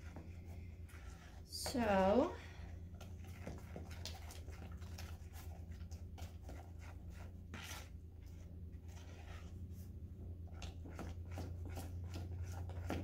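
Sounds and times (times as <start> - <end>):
spoon stirring sticky slime: 0.0 - 13.0.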